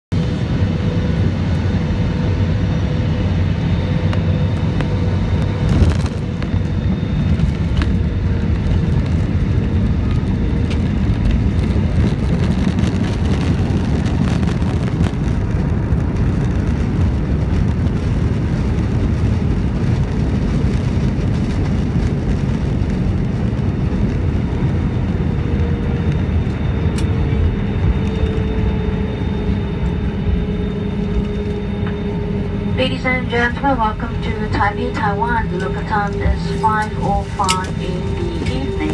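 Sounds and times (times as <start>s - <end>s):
airliner cabin rumble: 0.1s - 38.9s
steady engine whine: 0.1s - 38.9s.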